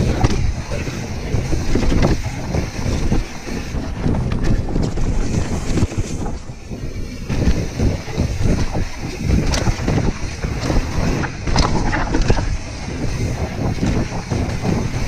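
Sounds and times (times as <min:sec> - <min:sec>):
bike knocking and rattling: 0:00.0 - 0:15.0
tyres rumbling on dirt: 0:00.0 - 0:15.0
wind buffeting microphone: 0:00.0 - 0:15.0.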